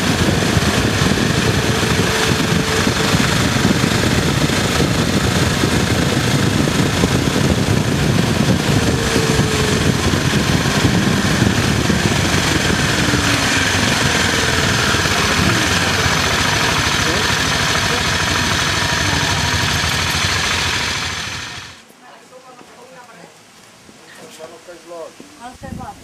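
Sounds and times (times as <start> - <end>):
wind on microphone: 0.0 - 21.7, 25.5 - 26.0
motorcycle engine running: 0.0 - 21.8.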